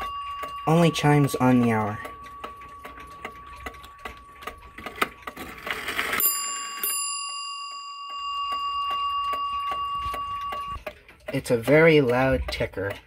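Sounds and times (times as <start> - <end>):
clock bell ringing: 0.0 - 10.8
clock ticking loudly: 0.0 - 13.0.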